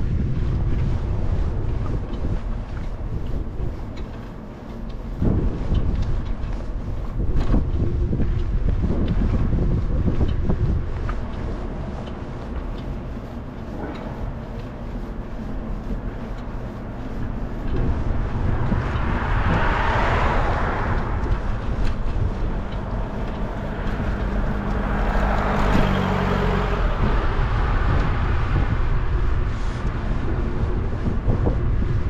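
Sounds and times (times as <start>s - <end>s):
vehicles passing: 0.0s - 32.0s
wind rumble on microphone: 0.0s - 32.0s.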